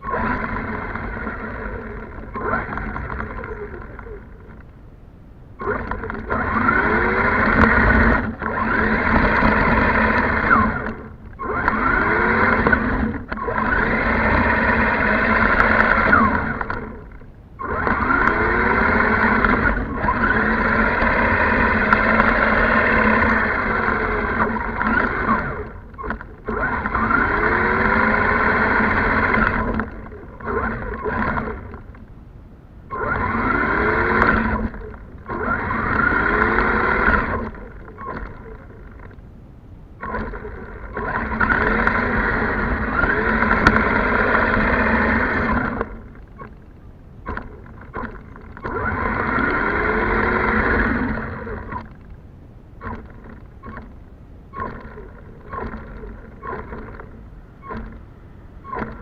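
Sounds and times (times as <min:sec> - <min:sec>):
toy truck electric motor whining: 0:00.0 - 0:04.6, 0:05.6 - 0:32.0, 0:32.9 - 0:39.2, 0:40.0 - 0:46.6, 0:47.2 - 0:52.0, 0:54.5 - 0:58.0, 0:58.6 - 0:59.0.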